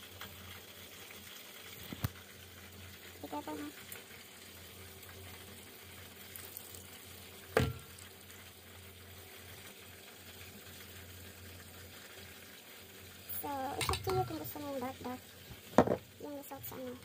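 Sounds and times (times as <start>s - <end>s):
caramel sizzling and bubbling: 0.0s - 17.0s.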